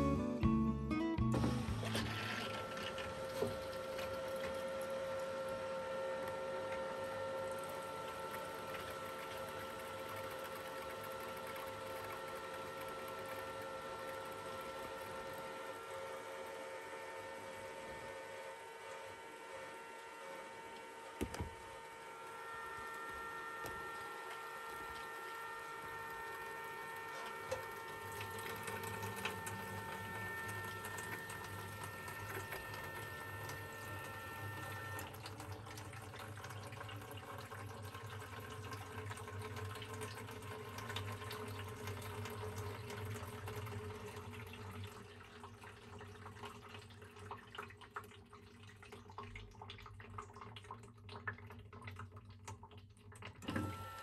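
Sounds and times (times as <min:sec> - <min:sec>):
tap water running into sink: 0:01.4 - 0:16.7, 0:22.6 - 0:54.0.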